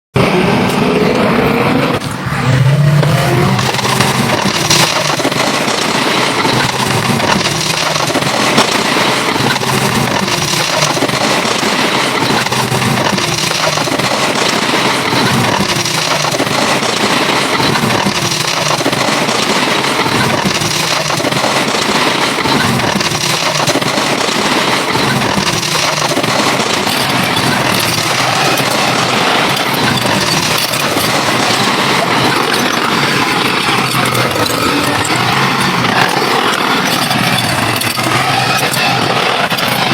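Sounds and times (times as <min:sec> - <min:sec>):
construction machinery engines running: 0:00.2 - 0:39.9.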